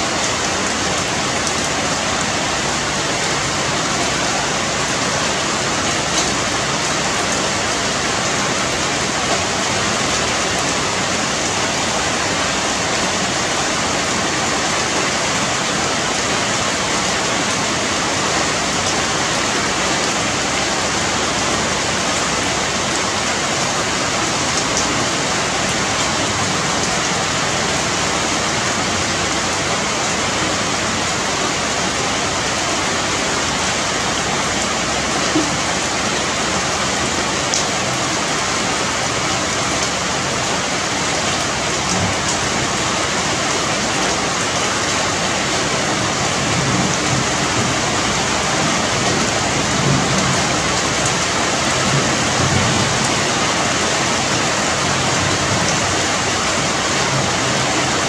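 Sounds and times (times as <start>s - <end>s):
rain on tree foliage: 0.0s - 58.0s.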